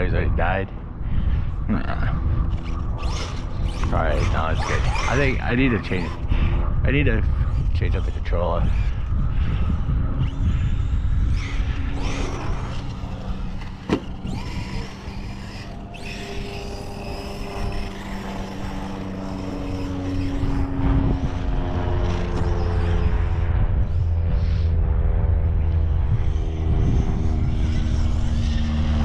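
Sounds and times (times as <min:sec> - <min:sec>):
low rumbling: 0:00.0 - 0:29.0
steady motor drone: 0:00.0 - 0:29.0.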